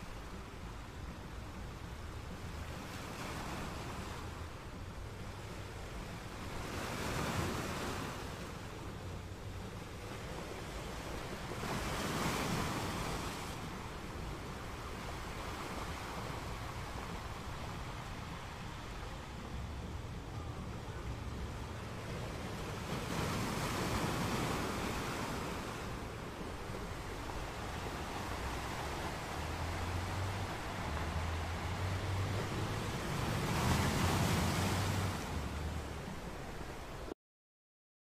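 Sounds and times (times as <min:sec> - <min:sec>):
sea waves washing: 0:00.0 - 0:37.1.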